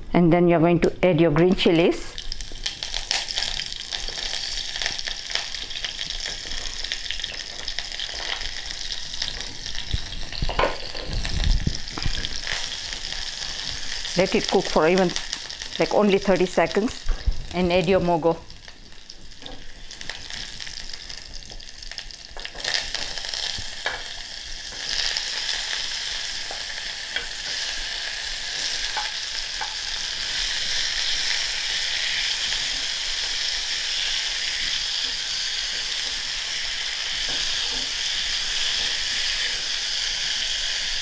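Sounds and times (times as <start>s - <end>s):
food sizzling in hot oil: 1.6s - 41.0s.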